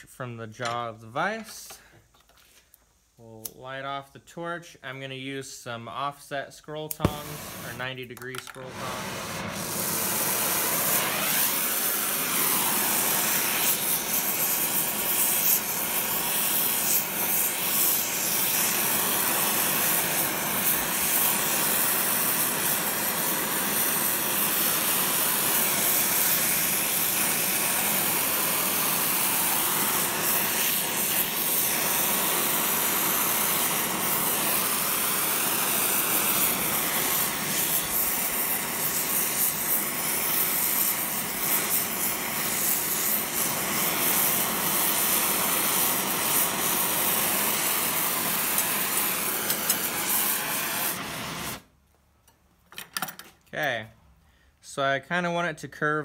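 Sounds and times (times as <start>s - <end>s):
torch flame hissing: 6.9s - 51.7s.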